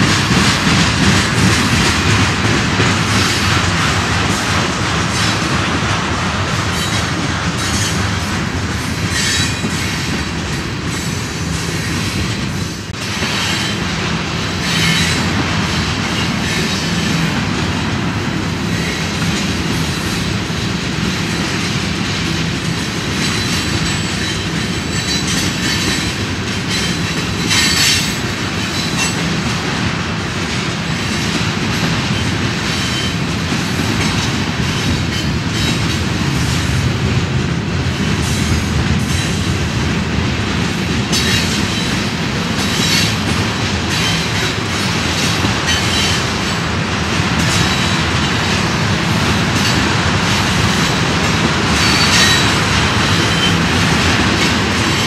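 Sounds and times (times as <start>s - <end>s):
clacking over rail joints: 0.0s - 11.2s, 11.9s - 55.0s
train wheels rumbling on rail: 0.0s - 55.0s.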